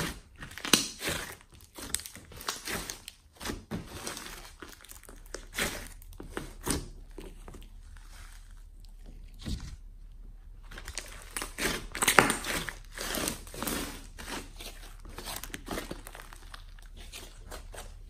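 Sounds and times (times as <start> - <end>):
slime crackling and squishing: 0.0 - 18.0.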